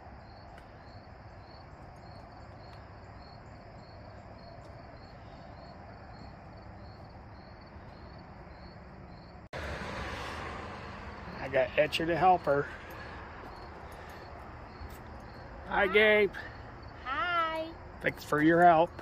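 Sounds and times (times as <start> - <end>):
cricket chirping: 0.0 - 19.0
low outdoor background noise: 0.0 - 19.0.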